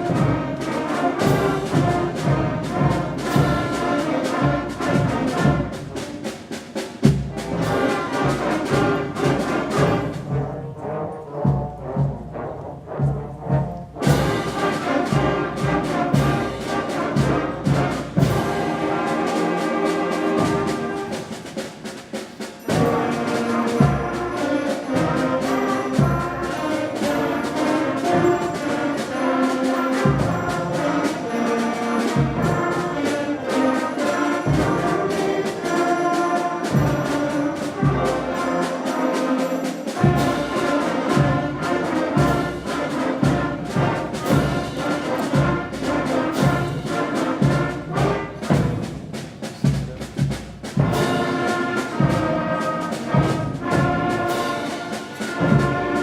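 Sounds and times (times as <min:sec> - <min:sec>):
brass carrying the tune: 0:00.0 - 0:56.0
school concert band playing: 0:00.0 - 0:56.0
steady drum strokes: 0:00.0 - 0:56.0.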